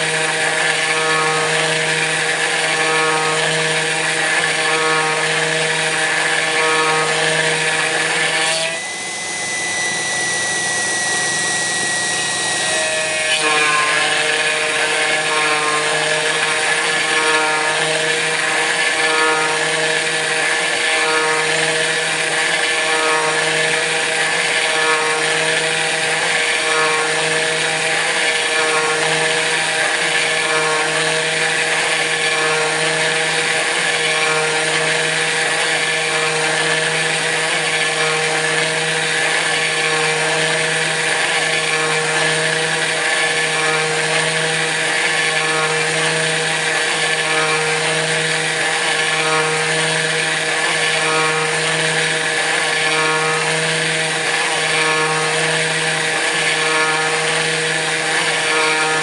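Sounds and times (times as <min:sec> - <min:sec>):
cutter cutting metal: 0:00.0 - 0:59.0
router spindle whine: 0:00.0 - 0:59.0.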